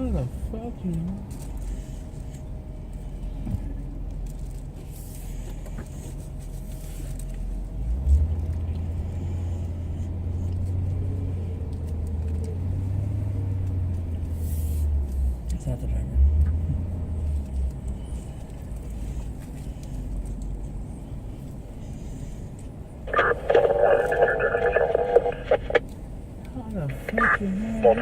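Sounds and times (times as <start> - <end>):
motor vehicle rumble: 0.0 - 28.0.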